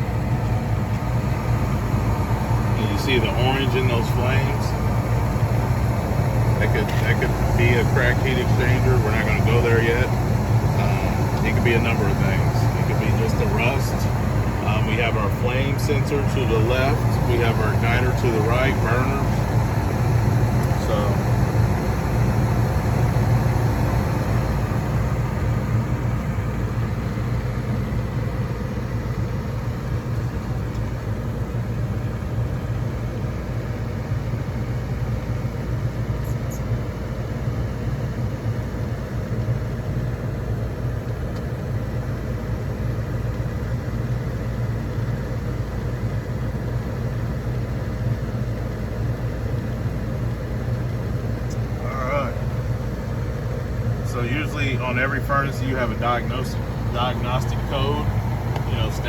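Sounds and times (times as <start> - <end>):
gas furnace humming: 0.0 - 59.0.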